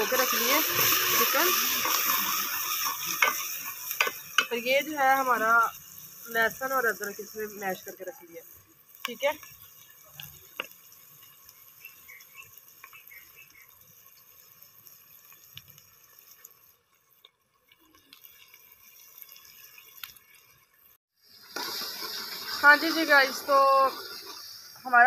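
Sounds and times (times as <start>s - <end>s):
onions sizzling in a pot: 0.0s - 25.0s
wood fire crackling: 0.0s - 25.0s.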